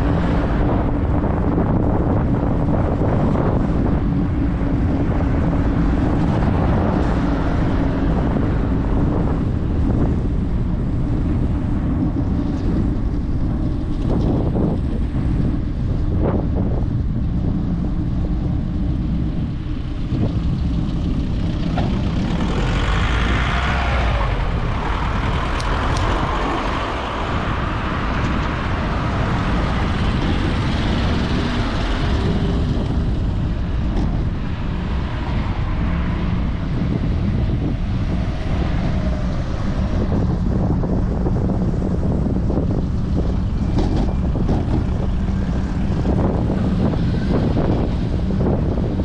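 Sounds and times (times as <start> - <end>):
road traffic passing: 0.0 - 49.0
wind buffeting microphone: 0.0 - 49.0.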